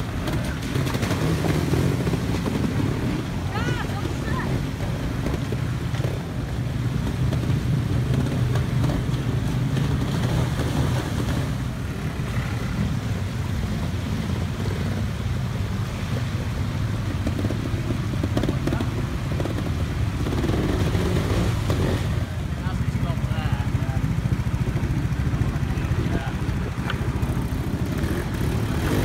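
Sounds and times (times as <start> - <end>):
motorcycle engines at low revs: 0.0 - 29.0.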